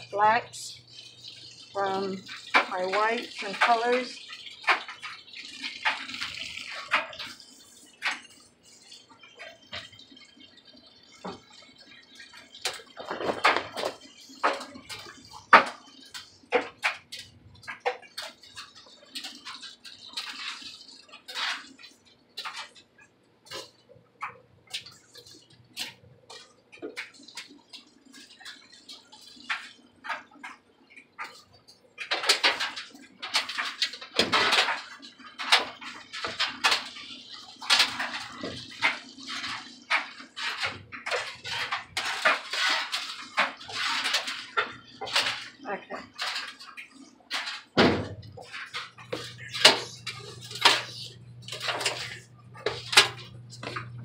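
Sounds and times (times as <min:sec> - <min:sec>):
water running into tub: 0:00.0 - 0:54.0.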